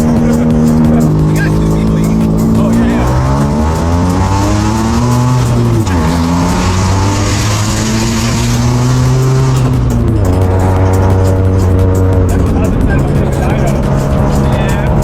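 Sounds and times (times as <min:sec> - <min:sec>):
rotary engine revving high: 0:00.0 - 0:15.0.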